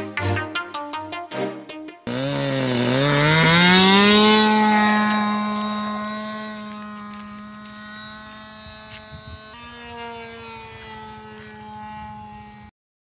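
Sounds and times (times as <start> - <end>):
model plane engine buzzing: 2.1 - 12.8.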